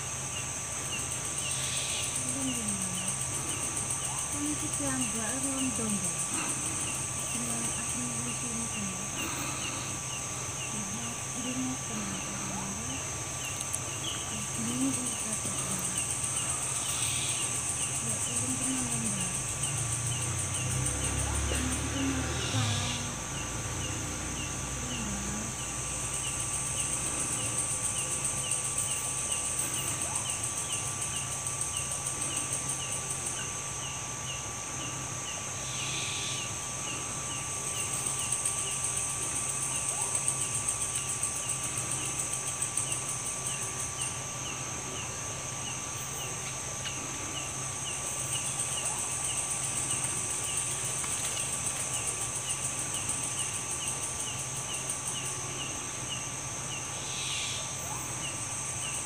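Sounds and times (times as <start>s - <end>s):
crickets trilling: 0.0s - 59.0s
insect chirping: 0.0s - 59.0s.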